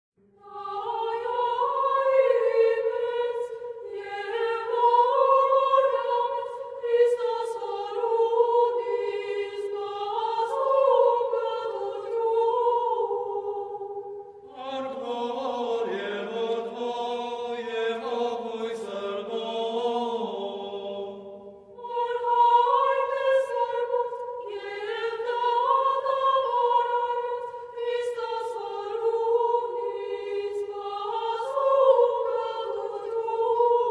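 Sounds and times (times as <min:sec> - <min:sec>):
choir singing: 0:00.4 - 0:33.9.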